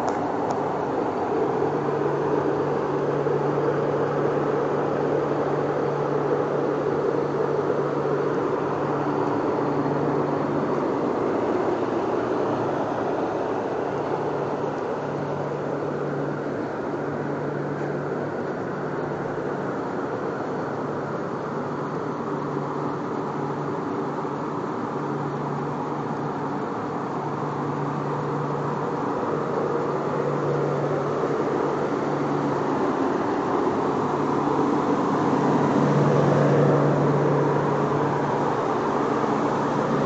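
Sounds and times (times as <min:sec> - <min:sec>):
heater burner and blower noise: 0:00.0 - 0:40.0.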